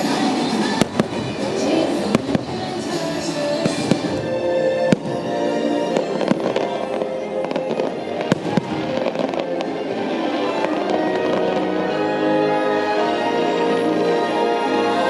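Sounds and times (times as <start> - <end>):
fireworks bangs: 0.0 - 12.1
orchestral music: 0.0 - 15.0.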